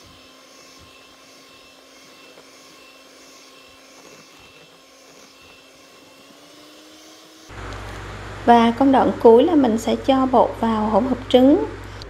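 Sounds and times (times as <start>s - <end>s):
electric hand mixer whirring: 0.0s - 12.0s.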